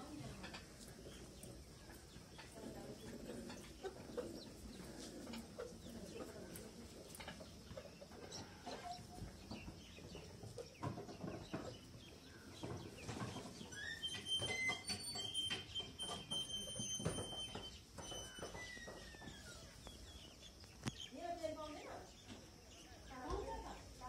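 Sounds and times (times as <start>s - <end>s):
birds clucking and calling: 0.0s - 24.0s.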